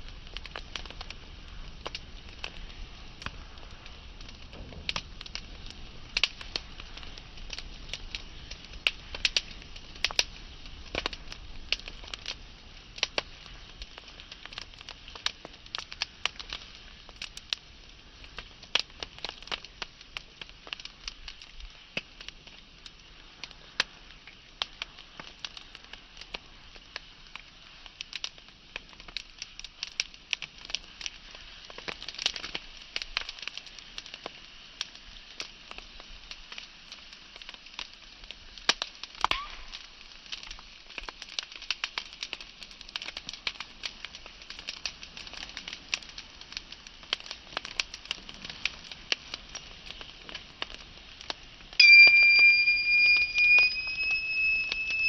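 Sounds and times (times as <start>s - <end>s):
soft hiss of flame: 0.0s - 55.0s
wood fire crackling and popping: 0.0s - 55.0s.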